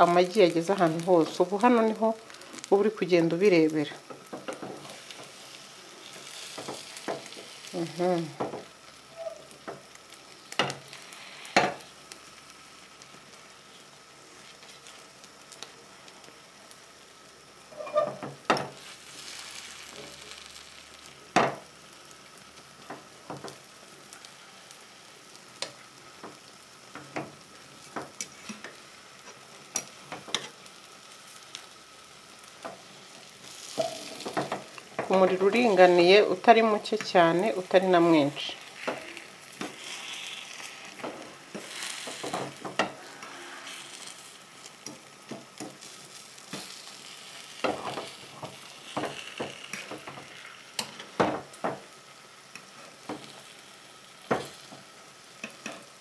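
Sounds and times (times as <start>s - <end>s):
omelette sizzling in frying pan: 0.0s - 56.0s.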